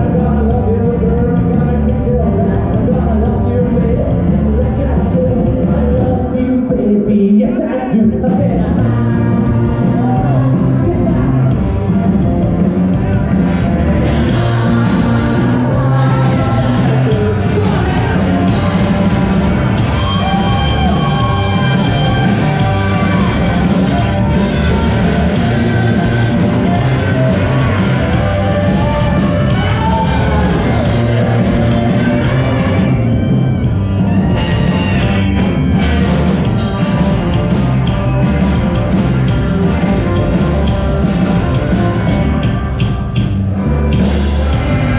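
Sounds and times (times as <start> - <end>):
lead voice singing: 0.0 - 43.2
rock band playing: 0.0 - 44.9.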